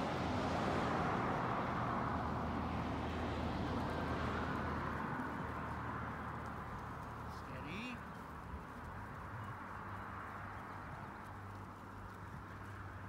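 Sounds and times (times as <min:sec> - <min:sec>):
passing vehicle rumble and hiss: 0:00.0 - 0:13.0.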